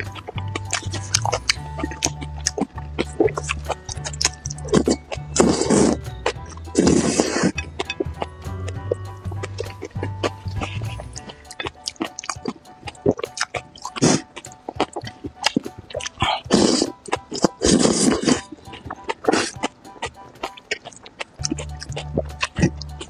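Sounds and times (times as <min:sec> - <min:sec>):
person slurping noodles: 0:00.0 - 0:19.8
background music: 0:00.0 - 0:23.0
chewing and wet mouth clicks: 0:00.0 - 0:23.0.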